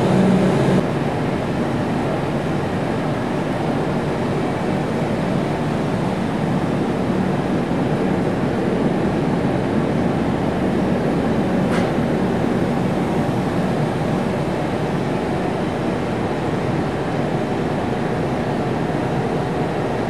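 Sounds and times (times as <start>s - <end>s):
ventilation airflow rumble: 0.0s - 20.0s.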